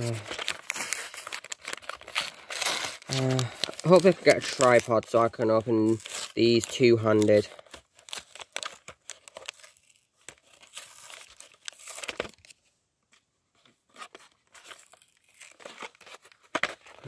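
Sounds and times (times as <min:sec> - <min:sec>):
paper ripping and crinkling: 0:00.0 - 0:12.6, 0:13.9 - 0:17.0.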